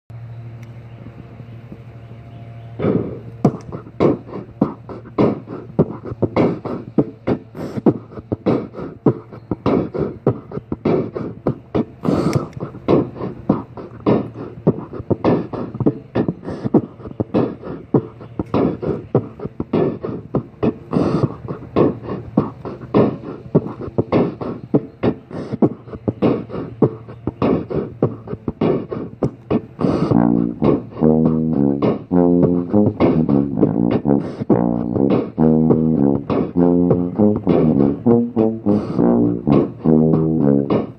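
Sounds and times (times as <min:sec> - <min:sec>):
beatboxed drum loop: 0:02.8 - 0:40.9.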